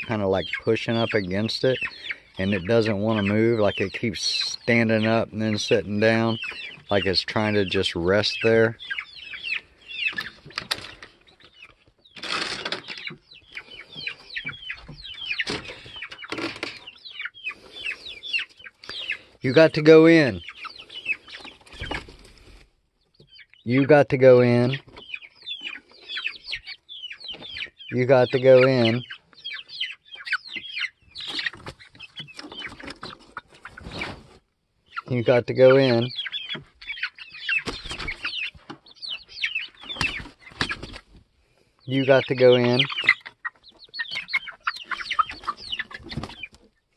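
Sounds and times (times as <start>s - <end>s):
chickens chirping and clucking: 0.0s - 46.9s.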